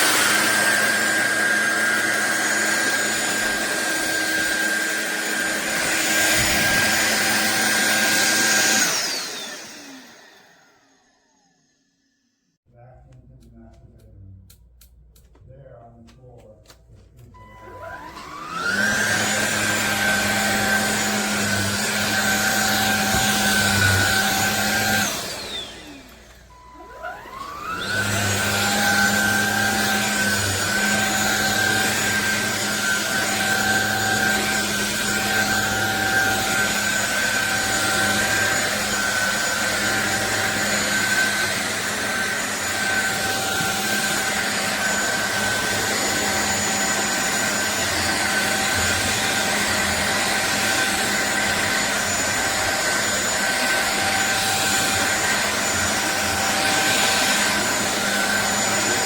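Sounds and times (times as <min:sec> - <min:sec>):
cordless vacuum motor running: 0:00.0 - 0:11.9, 0:17.4 - 0:59.0.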